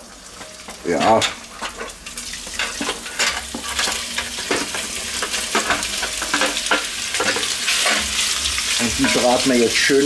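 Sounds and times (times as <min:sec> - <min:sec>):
sausage sizzling in butter: 0:00.0 - 0:10.0.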